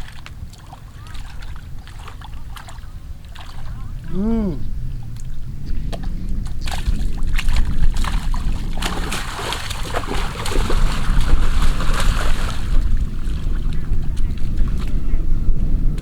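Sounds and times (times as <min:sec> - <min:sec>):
water splashing and sloshing: 0:00.0 - 0:04.2, 0:04.8 - 0:15.2
low rumble: 0:00.0 - 0:16.0.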